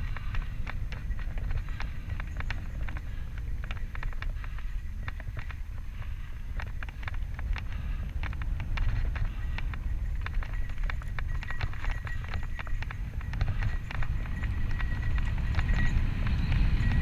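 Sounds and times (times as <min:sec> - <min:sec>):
bike clicks and rattles: 0:00.0 - 0:17.0
tyres crunching over dirt: 0:00.0 - 0:17.0
wind rumble on microphone: 0:00.0 - 0:17.0.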